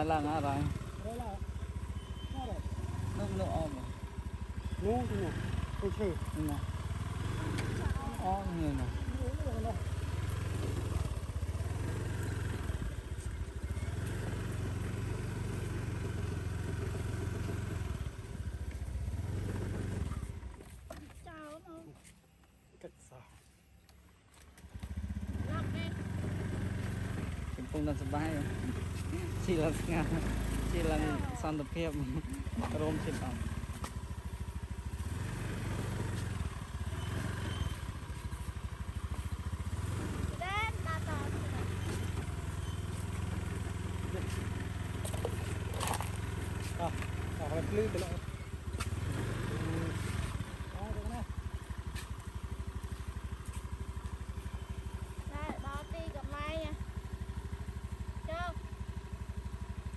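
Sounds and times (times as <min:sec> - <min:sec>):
motorbike engine running: 0:00.0 - 0:21.8, 0:24.5 - 0:59.9.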